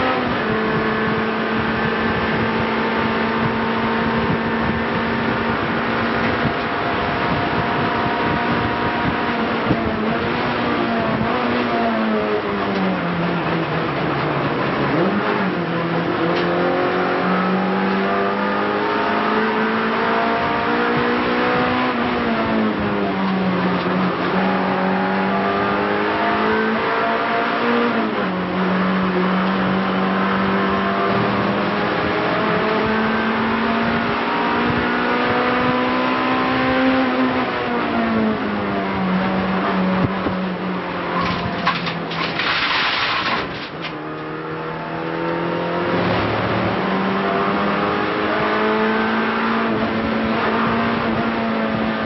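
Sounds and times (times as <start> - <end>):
race car engine: 0.0 - 52.0.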